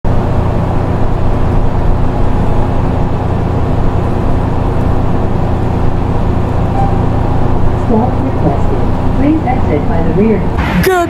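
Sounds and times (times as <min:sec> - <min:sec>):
bus rumbling: 0:00.0 - 0:11.0.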